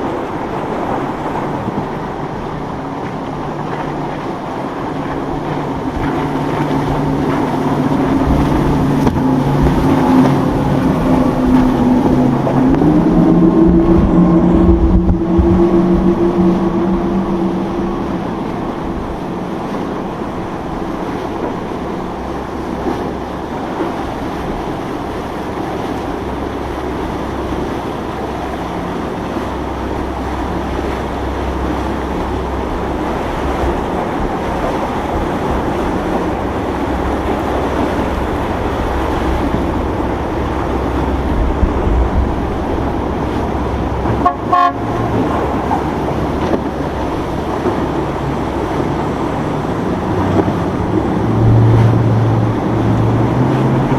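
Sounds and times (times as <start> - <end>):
boat engine rumble: 0.0 - 53.9
boat horn: 0.0 - 53.9
water: 0.0 - 53.9
wind: 0.0 - 53.9.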